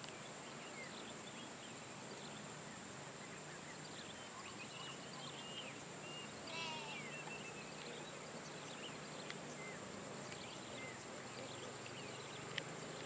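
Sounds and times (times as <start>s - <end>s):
birds chirping: 0.0s - 13.0s
low steady hum: 0.0s - 13.0s.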